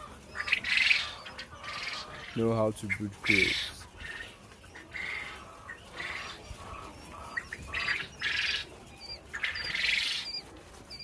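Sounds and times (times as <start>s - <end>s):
quail chicks calling: 0.0s - 11.0s.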